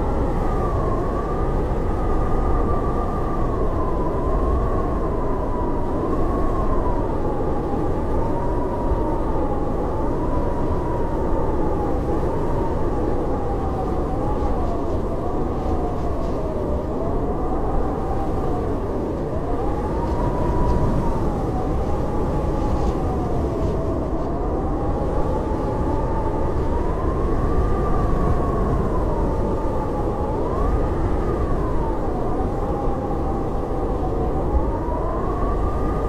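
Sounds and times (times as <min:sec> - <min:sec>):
howling blizzard wind: 0:00.0 - 0:36.0.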